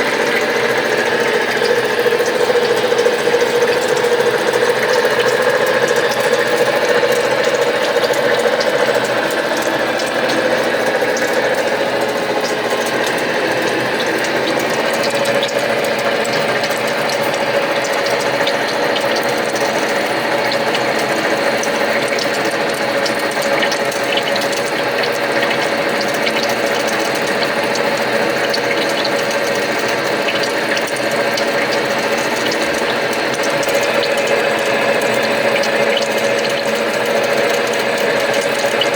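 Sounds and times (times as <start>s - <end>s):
lathe gear train whining: 0.0s - 38.9s.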